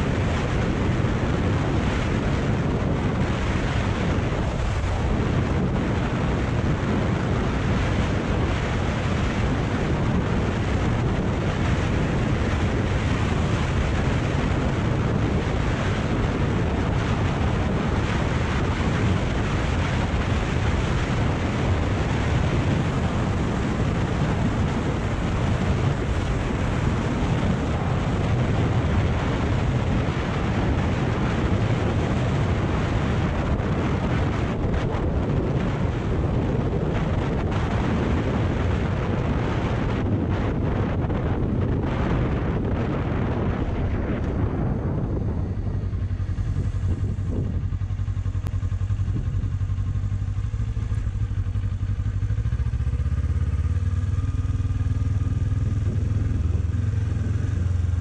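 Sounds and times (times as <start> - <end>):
motorcycle engine and tyre noise: 0.0 - 58.0
wind rushing on microphone: 0.0 - 58.0.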